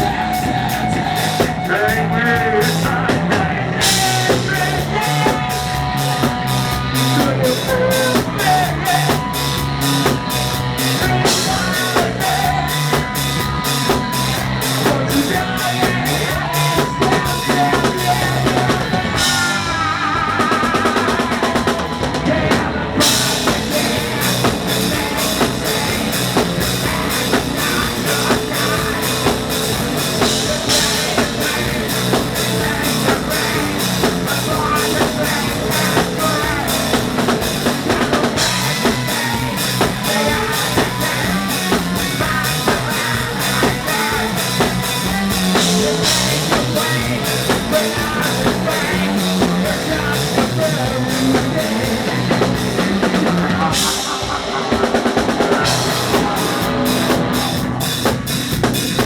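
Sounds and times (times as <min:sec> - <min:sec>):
person singing: 0:00.0 - 0:58.1
drum kit: 0:00.0 - 0:59.0
electric guitar: 0:00.0 - 0:59.0.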